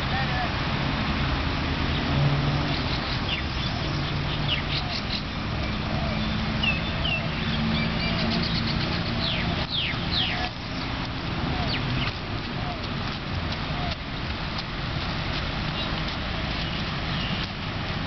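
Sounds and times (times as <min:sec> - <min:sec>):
small birds chirping: 0:02.7 - 0:17.9.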